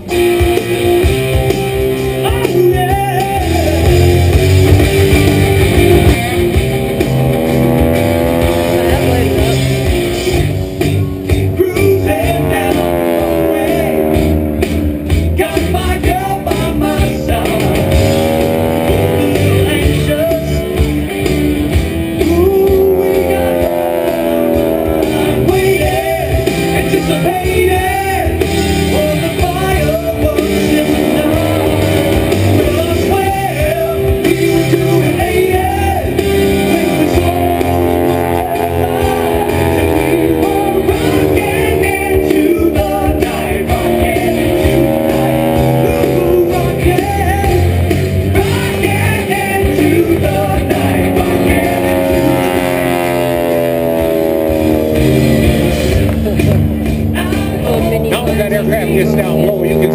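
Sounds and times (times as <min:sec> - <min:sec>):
rock music with singing: 0:00.0 - 0:59.9.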